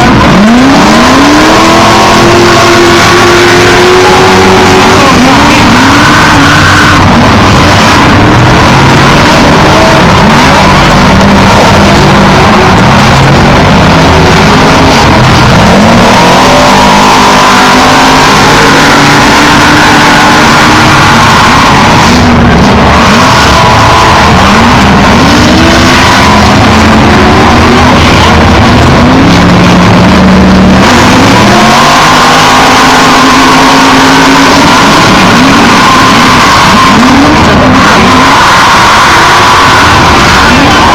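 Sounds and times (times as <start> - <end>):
race truck engines at full throttle: 0.0 - 40.9.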